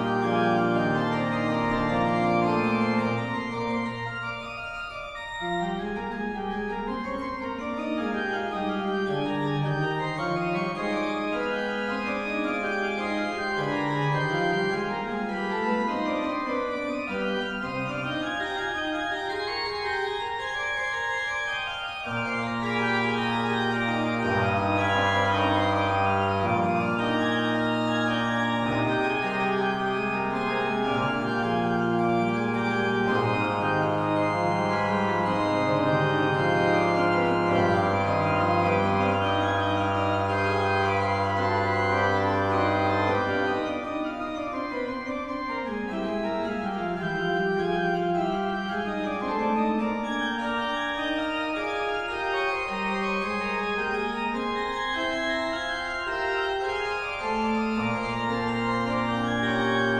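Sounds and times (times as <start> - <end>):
organ music: 0.0 - 59.9.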